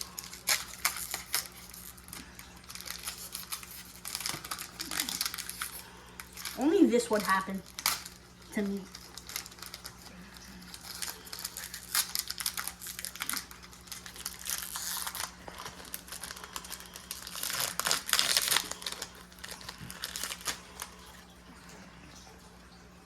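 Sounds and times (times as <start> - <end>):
plastic and foil packaging crinkling: 0.0 - 22.4.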